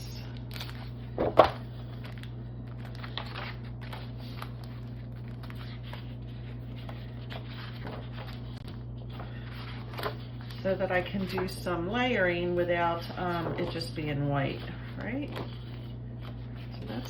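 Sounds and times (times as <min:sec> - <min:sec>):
steady low hum: 0:00.0 - 0:17.0
paper rustling: 0:00.2 - 0:17.0.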